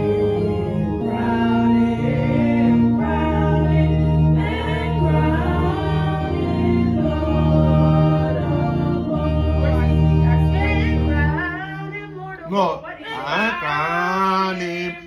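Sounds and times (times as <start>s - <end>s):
group singing a hymn: 0.0s - 12.2s, 12.9s - 15.0s
keyboard chords: 0.0s - 12.8s.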